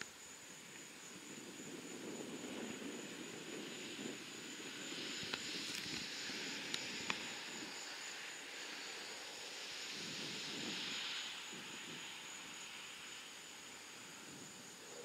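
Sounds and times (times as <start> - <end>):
distant jet roar: 1.4 - 15.0.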